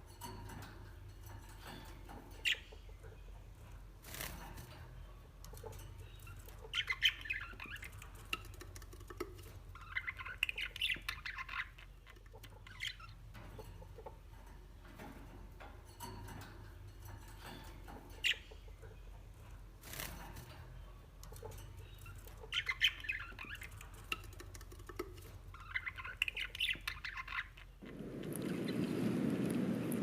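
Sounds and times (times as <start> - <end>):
small birds chirping and squawking: 0.0 - 29.4.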